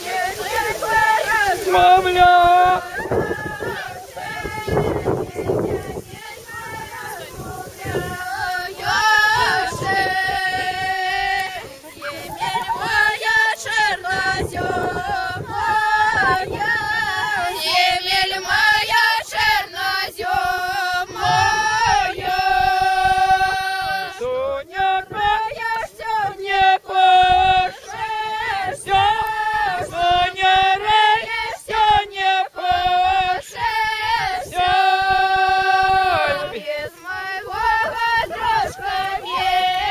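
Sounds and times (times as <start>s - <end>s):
women and girls singing folk song: 0.0s - 39.9s.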